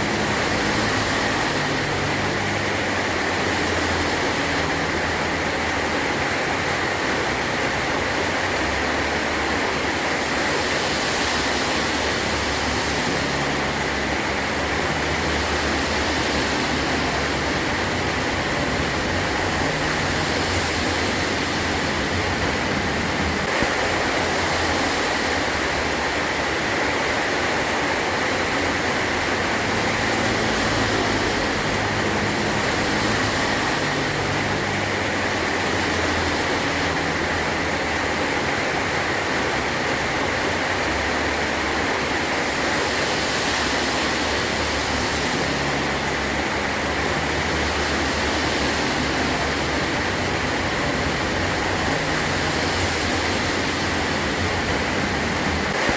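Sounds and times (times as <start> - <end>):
heavy rain on a metal roof: 0.0 - 55.9.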